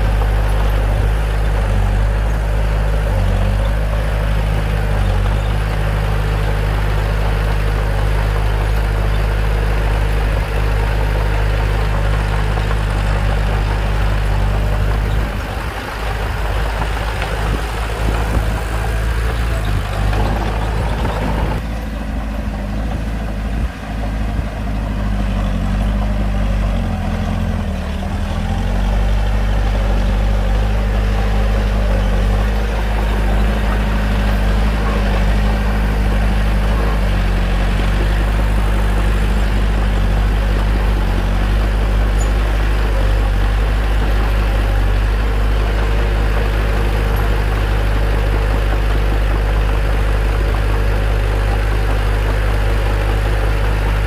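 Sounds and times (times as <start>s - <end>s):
bulldozer diesel engine under load: 0.0s - 54.0s.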